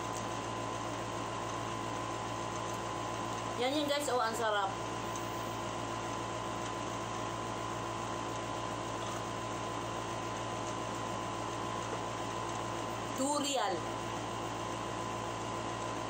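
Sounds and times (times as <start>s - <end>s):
room hum and hiss: 0.0s - 16.0s.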